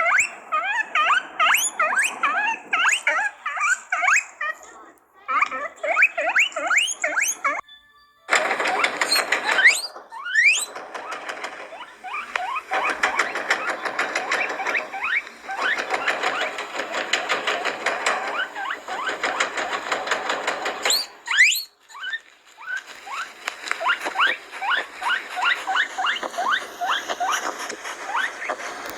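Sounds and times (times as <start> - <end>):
guinea pig whistling: 0.0 - 4.7, 5.3 - 28.9
guinea pig squeaking: 0.0 - 7.7, 8.3 - 28.9.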